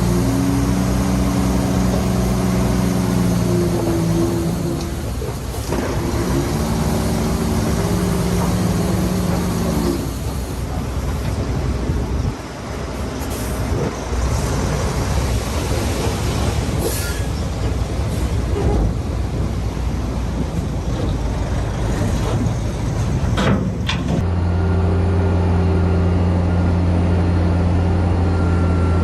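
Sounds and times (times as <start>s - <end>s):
heavy diesel machinery rumbling: 0.0s - 29.0s.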